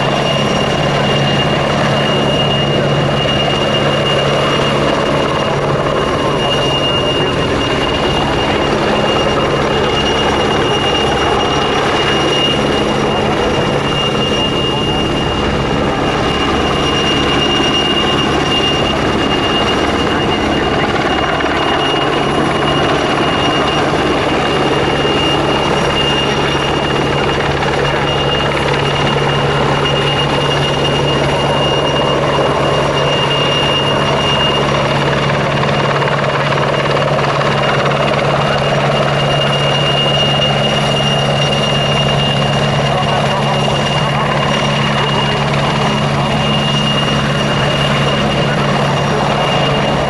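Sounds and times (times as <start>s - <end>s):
helicopter roar: 0.0s - 50.0s
high turbine whine: 0.0s - 50.0s
low rotor hum: 0.0s - 50.0s.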